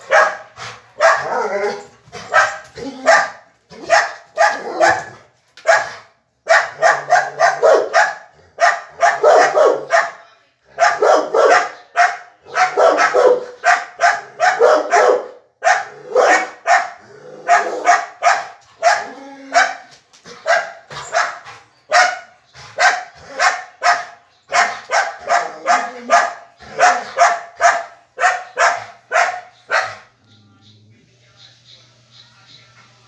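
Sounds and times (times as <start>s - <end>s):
dog barking excitedly: 0.0s - 10.2s, 10.8s - 30.2s.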